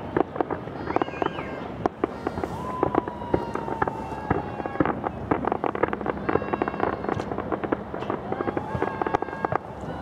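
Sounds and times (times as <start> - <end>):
fireworks cracks and bangs: 0.0 - 10.0
firework whistle: 0.6 - 10.0.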